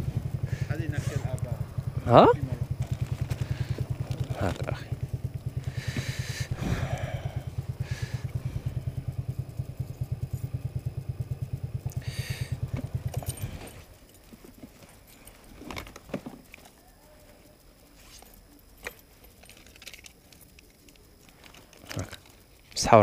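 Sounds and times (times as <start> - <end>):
faint clicks and rustles: 0.0 - 23.0
moped engine idling: 0.0 - 23.0.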